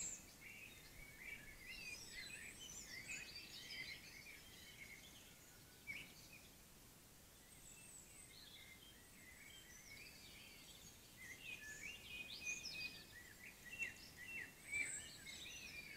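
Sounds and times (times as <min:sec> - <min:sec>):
faint background hiss: 0:00.0 - 0:15.9
faint bird song: 0:00.0 - 0:15.9.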